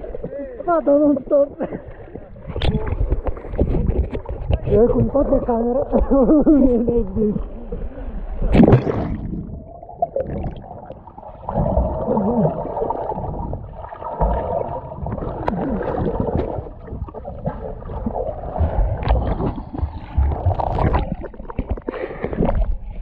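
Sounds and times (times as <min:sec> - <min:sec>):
muffled water gurgling and sloshing: 0:00.0 - 0:23.0.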